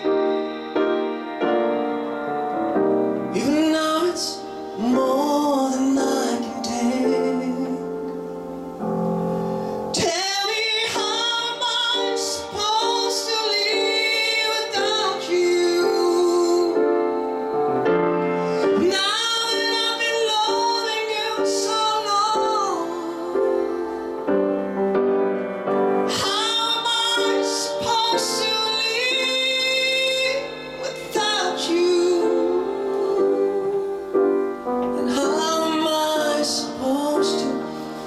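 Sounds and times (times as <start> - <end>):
instrumental accompaniment: 0.0 - 38.0
man singing into microphone: 3.2 - 8.8, 9.9 - 24.5, 26.0 - 38.0.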